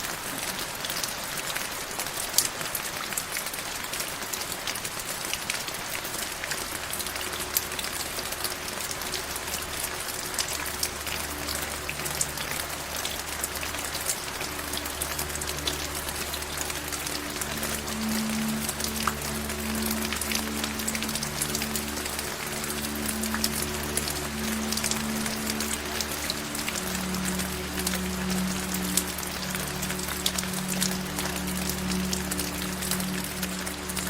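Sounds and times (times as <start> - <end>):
raindrops striking a surface: 0.0 - 34.0
steady rain: 0.0 - 34.0
soft low sustained tones: 6.3 - 34.0.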